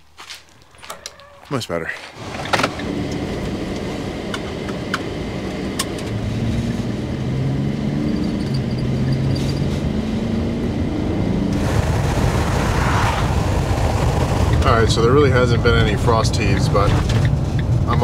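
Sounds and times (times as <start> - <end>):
van engine and tyre noise: 0.0 - 18.0.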